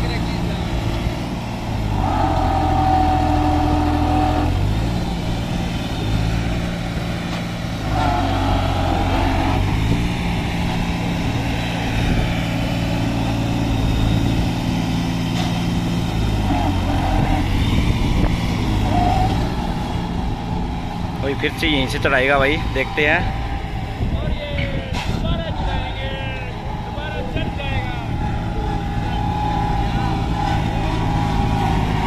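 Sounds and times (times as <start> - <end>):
tractor diesel engine labouring: 0.0 - 32.0.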